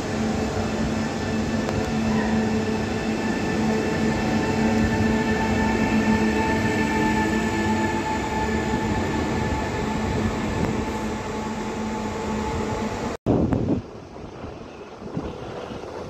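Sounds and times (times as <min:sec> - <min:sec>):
distant electric train rumble: 0:00.0 - 0:16.0
electric train humming: 0:00.0 - 0:16.0.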